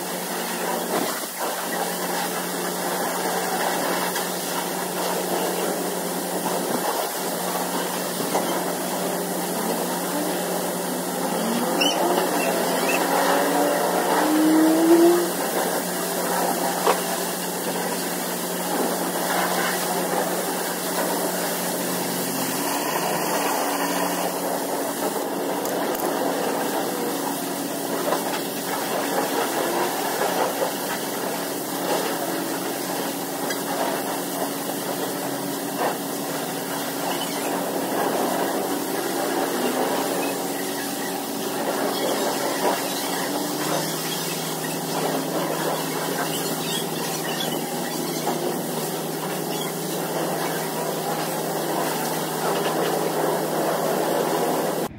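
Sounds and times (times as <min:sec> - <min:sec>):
pressure washer motor hum: 0:00.0 - 0:54.9
water spray hissing: 0:00.0 - 0:54.9.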